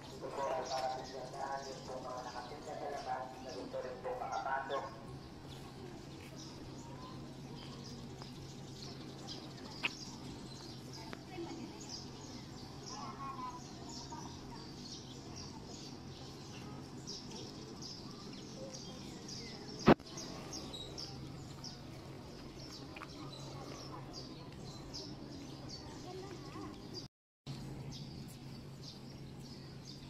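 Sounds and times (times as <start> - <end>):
low background murmur: 0.0 - 30.0
small birds chirping: 0.0 - 30.0.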